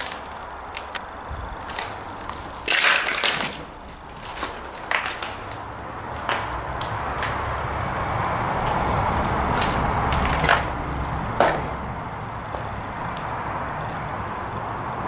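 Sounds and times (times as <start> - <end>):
footsteps crunching over rubble: 0.0 - 13.3.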